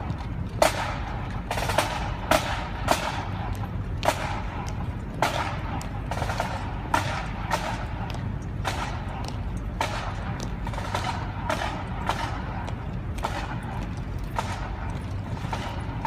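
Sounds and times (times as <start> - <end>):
low street rumble: 0.0 - 16.0
marching footsteps tapping: 0.0 - 16.0.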